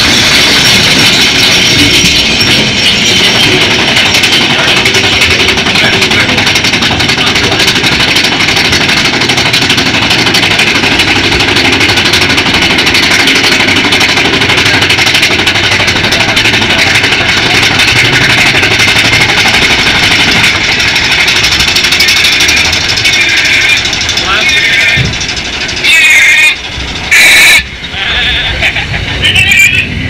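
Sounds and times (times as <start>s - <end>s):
roller coaster wheels rumbling on rails: 0.0s - 30.0s.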